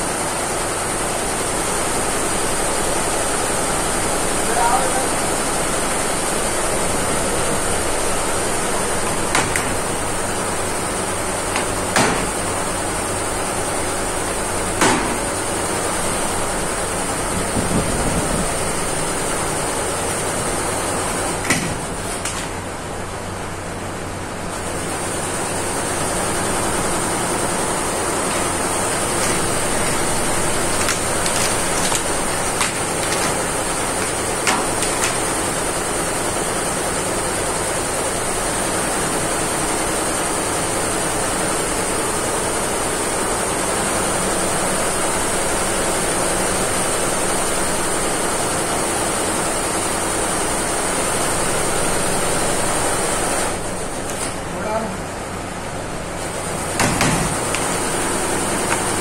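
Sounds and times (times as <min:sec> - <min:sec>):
machinery hum and hiss: 0:00.0 - 0:59.0.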